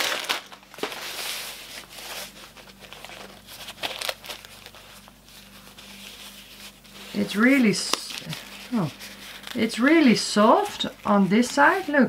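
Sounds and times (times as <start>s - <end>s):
canvas rustling and crinkling: 0.0s - 12.0s.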